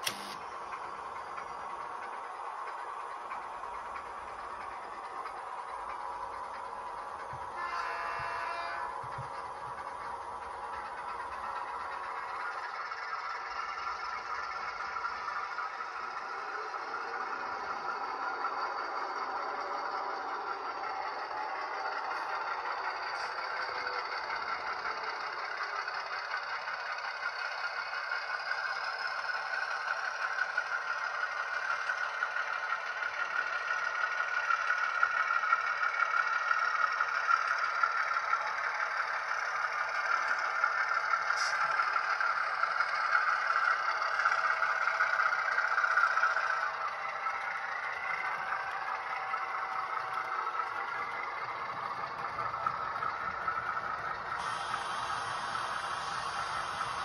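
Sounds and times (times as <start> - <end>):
model train wheels clattering: 0.0 - 57.0.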